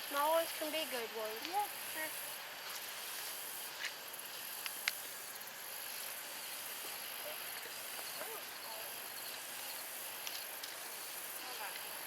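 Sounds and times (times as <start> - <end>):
insect chorus shrilling: 0.0 - 12.0.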